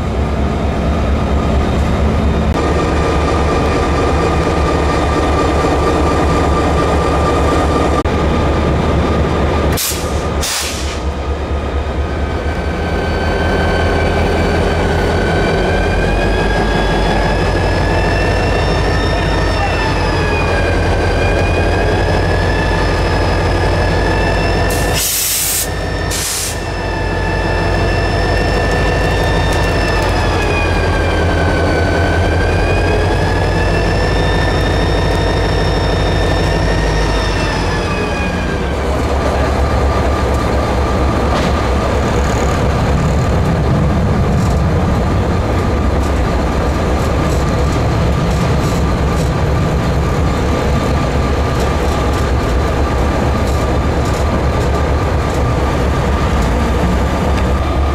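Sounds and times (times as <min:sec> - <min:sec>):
diesel locomotive idling: 0:00.0 - 0:57.9.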